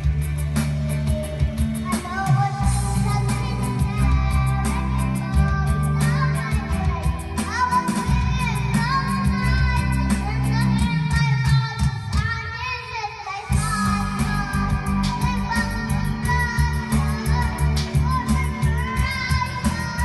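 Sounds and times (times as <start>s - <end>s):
karaoke backing track with beat: 0.0s - 20.0s
child singing: 0.6s - 20.0s.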